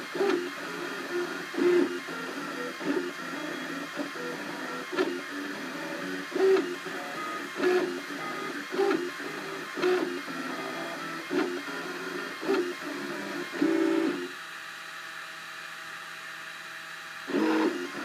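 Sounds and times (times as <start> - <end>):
stepper motors whining: 0.0 - 14.3, 17.3 - 18.0
steady mechanical hum: 0.0 - 18.0.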